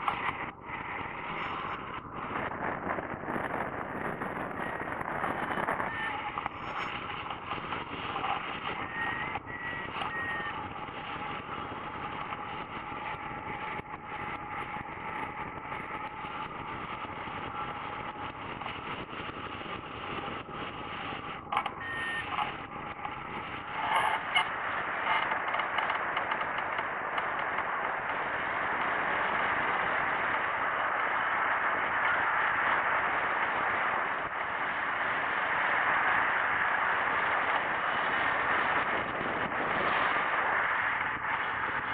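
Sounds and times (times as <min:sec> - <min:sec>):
wind rushing over camera: 0:00.0 - 0:41.9.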